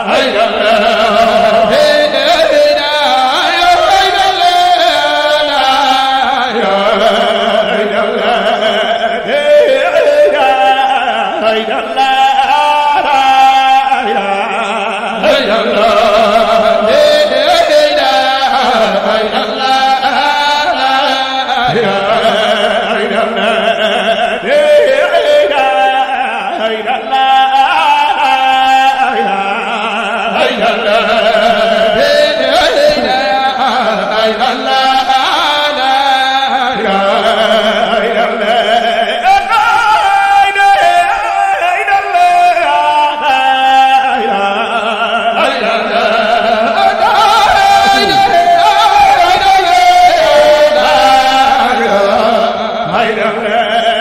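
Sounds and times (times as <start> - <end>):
man chanting a devotional song: 0.0 - 54.0.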